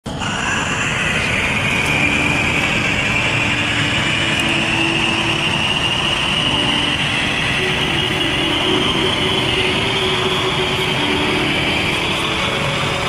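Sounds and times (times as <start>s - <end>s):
small jet engine roaring: 0.0s - 13.0s.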